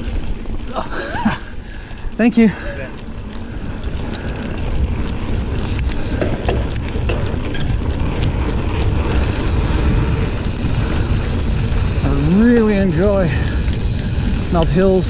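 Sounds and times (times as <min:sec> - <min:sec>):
bike clicks and rattles: 0:00.0 - 0:15.0
tyres rumbling on dirt: 0:00.0 - 0:15.0
wind rushing over microphone: 0:00.0 - 0:15.0.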